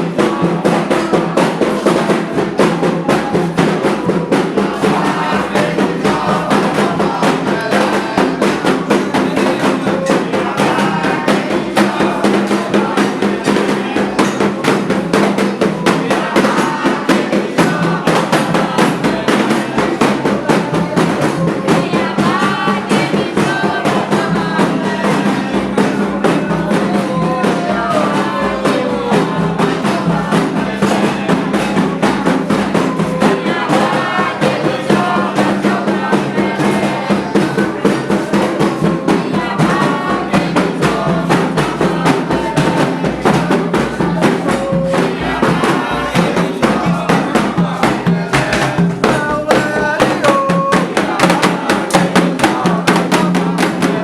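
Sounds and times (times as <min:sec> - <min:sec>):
hand drums beating fast rhythm: 0:00.0 - 0:54.0
person chanting: 0:00.0 - 0:54.0.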